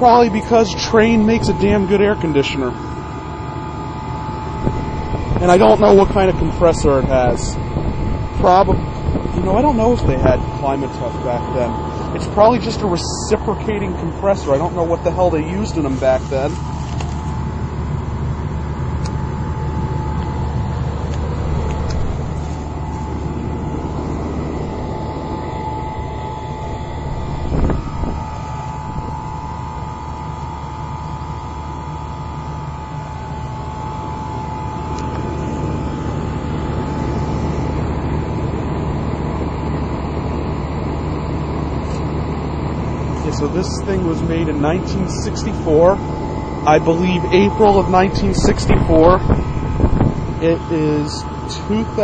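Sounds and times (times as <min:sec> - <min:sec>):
air conditioner unit humming: 0:00.0 - 0:52.0
steady high tone: 0:00.0 - 0:52.0.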